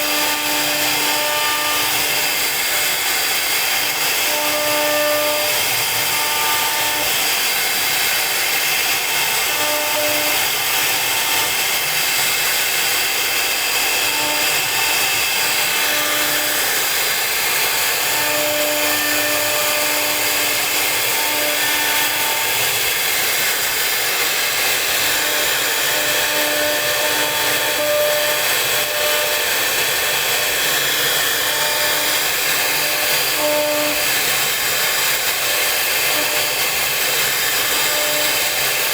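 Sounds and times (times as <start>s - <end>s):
router spindle cutting wood: 0.0s - 38.9s.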